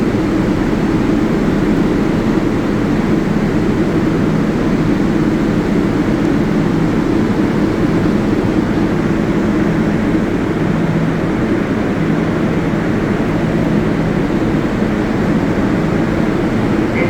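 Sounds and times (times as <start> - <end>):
subway train drone: 0.0 - 17.0.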